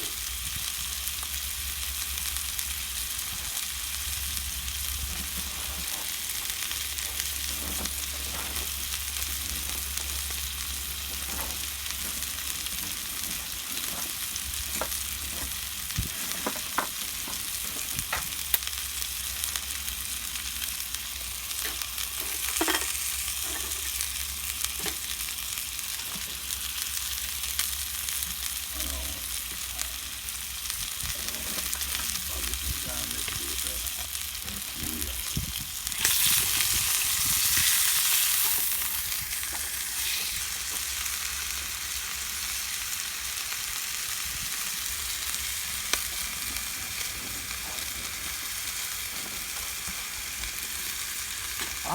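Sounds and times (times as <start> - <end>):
steak sizzling over fire: 0.0 - 51.9
fire pops and crackles: 2.1 - 28.5, 30.6 - 41.6, 44.2 - 51.9.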